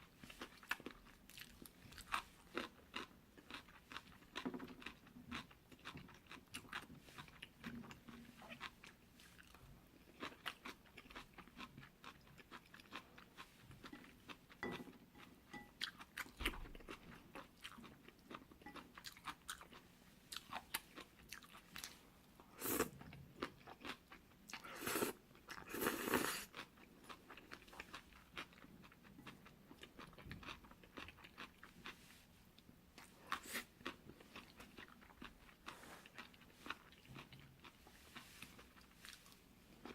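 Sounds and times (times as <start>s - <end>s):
chewing noodles: 0.2s - 22.0s, 22.6s - 32.1s, 33.0s - 39.9s.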